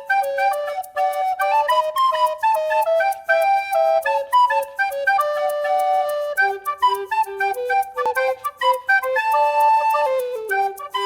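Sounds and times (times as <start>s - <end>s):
flute-like melody: 0.0s - 11.0s.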